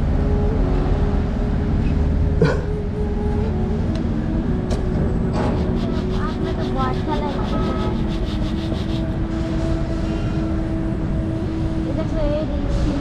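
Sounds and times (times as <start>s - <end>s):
faint engine hum: 0.0s - 13.0s
road traffic rumble: 0.0s - 13.0s.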